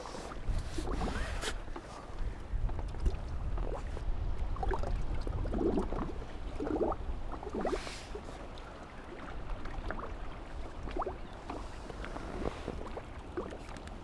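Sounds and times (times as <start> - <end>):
small waves lapping: 0.0 - 14.0
wind rumbling on microphone: 0.0 - 14.0.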